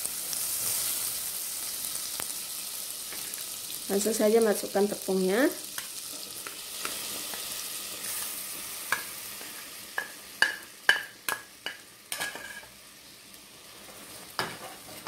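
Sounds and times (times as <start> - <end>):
butter sizzling in a saucepan: 0.0 - 15.0.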